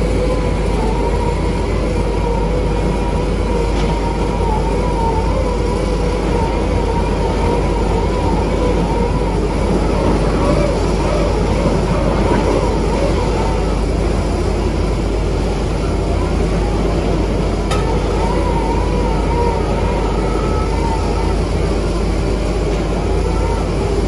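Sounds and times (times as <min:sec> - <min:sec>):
diesel engine rumbling: 0:00.0 - 0:24.0.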